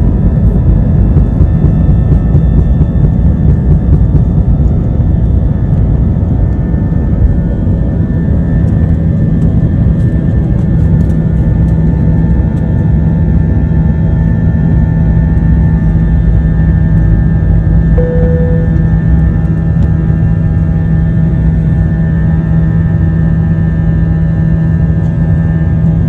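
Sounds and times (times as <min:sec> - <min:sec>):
jet engines at takeoff: 0:00.0 - 0:26.0.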